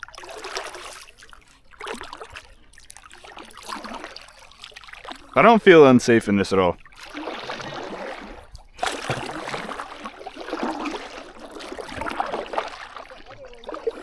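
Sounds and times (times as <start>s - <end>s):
paddle splashing water: 0.0s - 14.0s.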